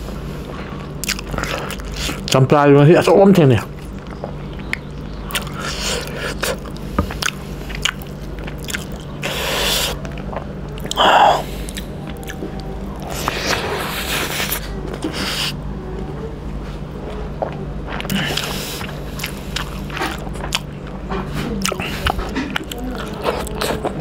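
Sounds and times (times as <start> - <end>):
wet chewing and biting: 0.6 - 2.4, 3.6 - 15.6, 17.4 - 24.0.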